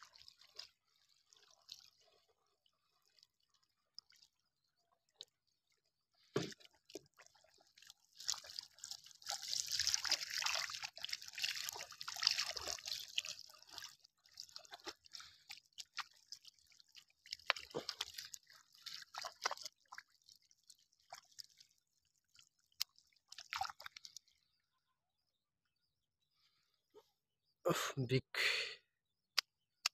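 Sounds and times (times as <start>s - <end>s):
hand stirring water: 0.0s - 24.5s
fish splashing in shallow water: 0.0s - 24.6s.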